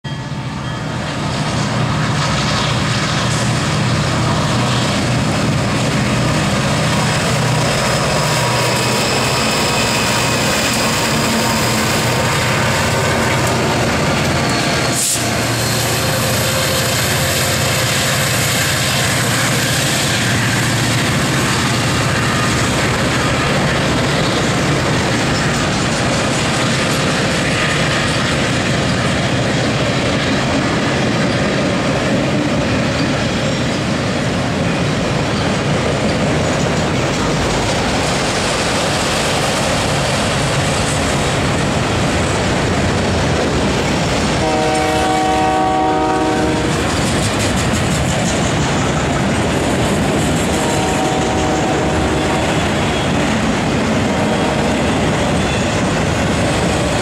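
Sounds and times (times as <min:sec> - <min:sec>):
diesel locomotives droning past: 0:00.0 - 0:57.0
freight cars rolling on rails: 0:00.0 - 0:57.0.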